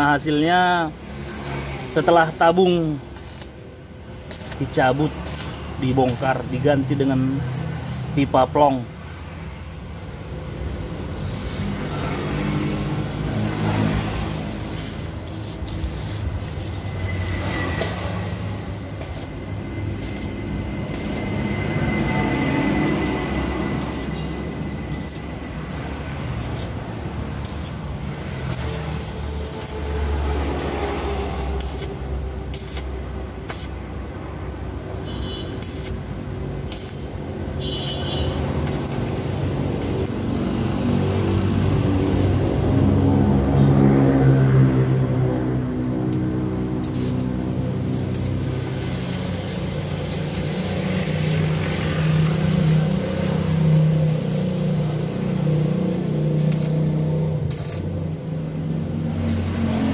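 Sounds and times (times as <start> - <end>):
welding arc crackling: 0.0 - 59.9.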